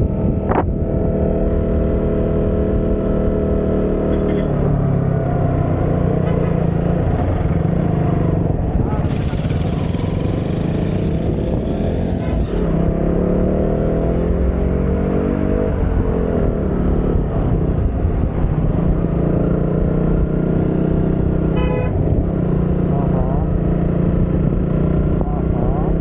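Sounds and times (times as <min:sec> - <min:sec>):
wind rumble: 0:00.0 - 0:03.9, 0:04.5 - 0:26.0
motorcycle engine running: 0:00.0 - 0:14.4, 0:15.8 - 0:26.0.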